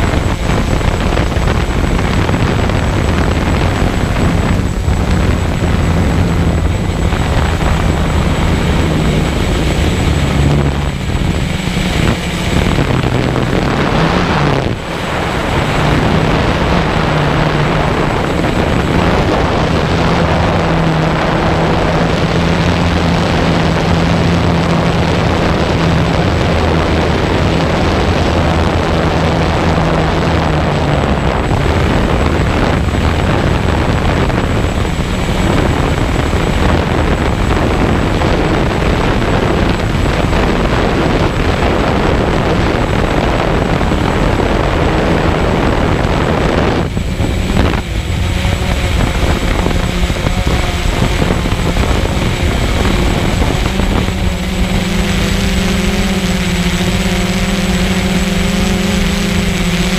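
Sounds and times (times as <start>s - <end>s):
drone motors buzzing: 0.0s - 59.9s.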